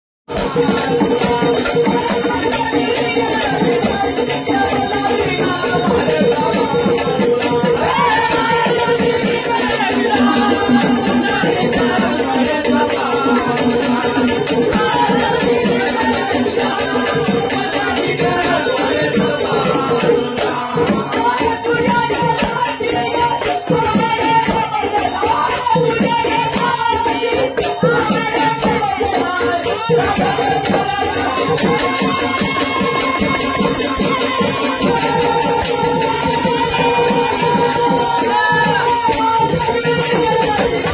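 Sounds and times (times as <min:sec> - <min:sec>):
fast rattling percussion: 0:00.3 - 0:40.9.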